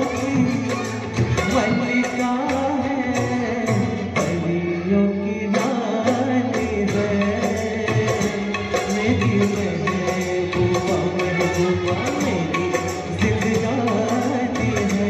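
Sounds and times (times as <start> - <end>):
backing track with percussion beat: 0.0 - 15.0
man singing into microphone: 0.0 - 15.0.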